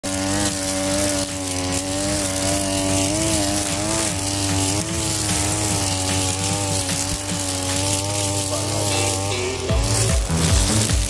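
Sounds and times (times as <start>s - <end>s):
brushcutter engine at high revs: 0.0s - 11.0s.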